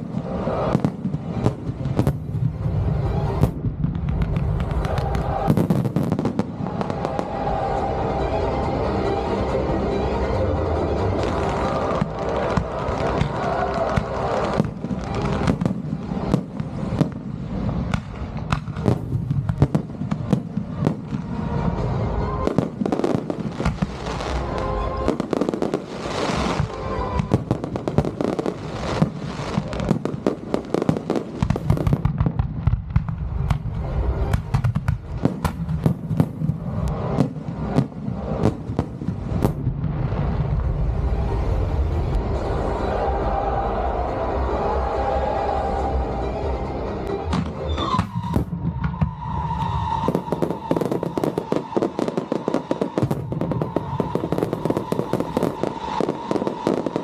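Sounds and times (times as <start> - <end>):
fireworks bangs and crackles: 0.0 - 8.9, 10.6 - 43.4, 46.8 - 57.0
music playing: 0.0 - 17.8, 18.8 - 31.3, 40.2 - 57.0.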